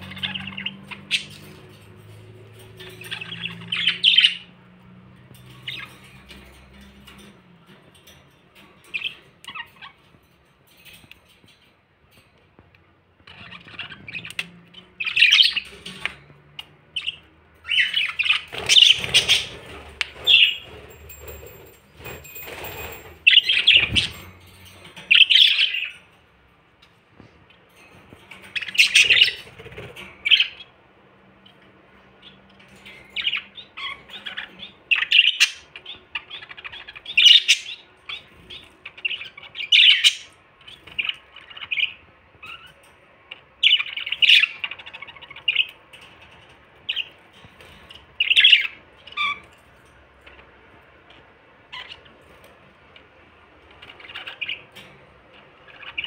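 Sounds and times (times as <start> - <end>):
budgerigars chirping and squawking: 0.0 - 11.6, 12.4 - 26.2, 26.8 - 56.0.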